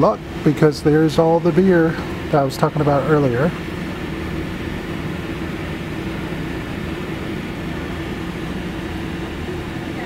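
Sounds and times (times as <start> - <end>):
bottling line machinery humming: 0.0 - 10.0.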